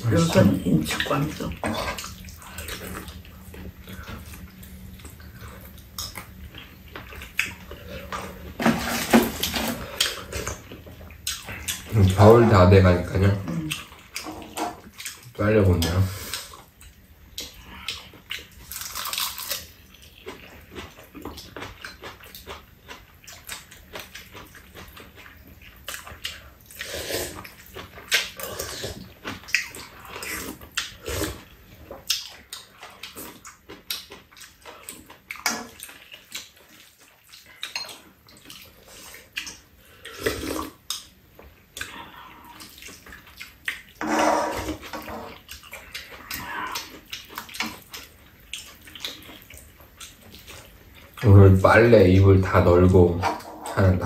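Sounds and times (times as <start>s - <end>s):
people chewing and slurping noodles: 0.0s - 54.0s.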